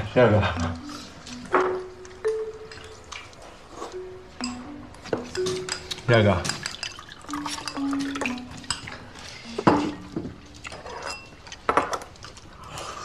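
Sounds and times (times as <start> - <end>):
chopsticks clicking on bowls: 0.6 - 12.4.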